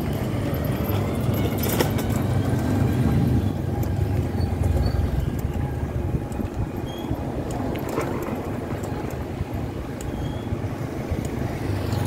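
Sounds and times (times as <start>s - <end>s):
low rumble of road noise: 0.0s - 12.0s
wind buffeting microphone: 0.0s - 12.0s.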